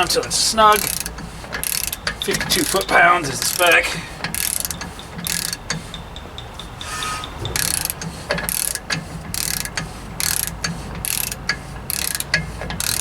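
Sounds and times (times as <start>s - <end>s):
ratchet wrench clicking: 0.0s - 13.0s.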